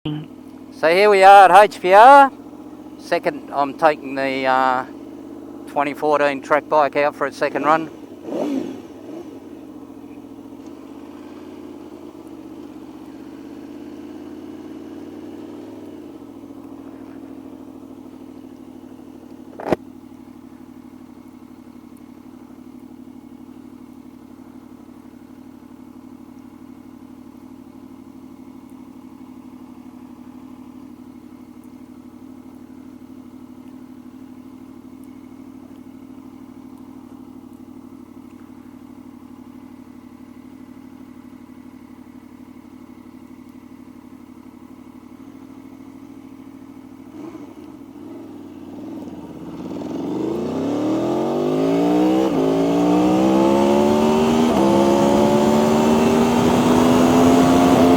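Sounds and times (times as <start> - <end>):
motorcycle engine idling: 0.1 - 51.3.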